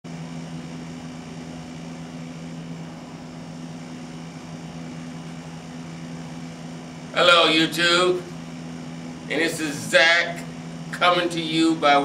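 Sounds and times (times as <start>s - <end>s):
ventilation fan drone: 0.0s - 12.0s.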